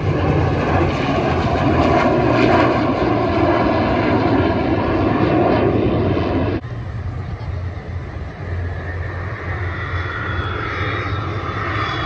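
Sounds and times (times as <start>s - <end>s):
jet fighter flying overhead: 0.0s - 12.0s
propeller plane engine drone: 0.0s - 12.0s.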